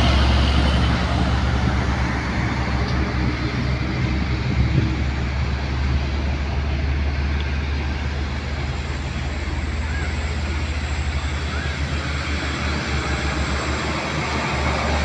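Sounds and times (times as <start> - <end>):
truck engine humming: 0.0 - 15.0
tyre and road noise: 0.0 - 15.0.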